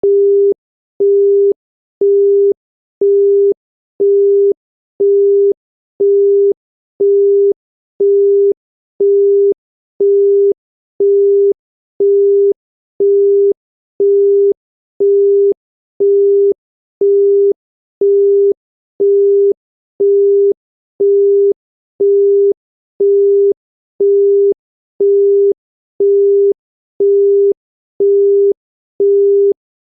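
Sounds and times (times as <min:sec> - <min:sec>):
telephone busy tone beeps: 0:00.0 - 0:29.6.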